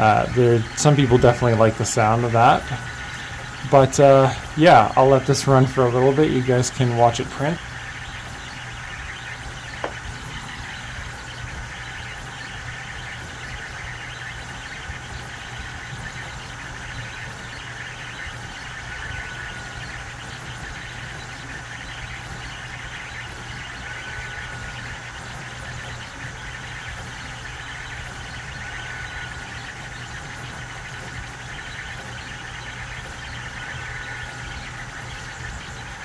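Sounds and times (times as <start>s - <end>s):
three d printer motors whirring: 0.0s - 36.0s.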